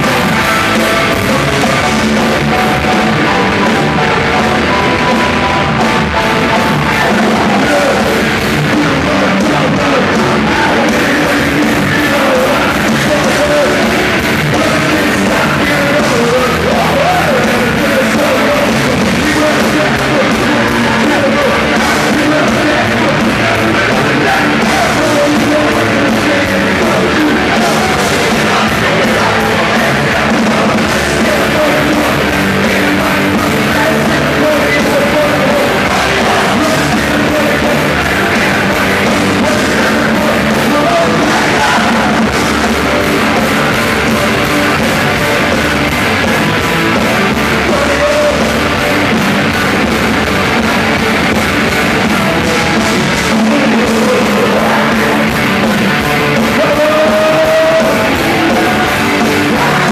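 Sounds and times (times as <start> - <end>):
drums: 0.0 - 59.9
guitars: 0.0 - 59.9
person singing: 0.0 - 59.9.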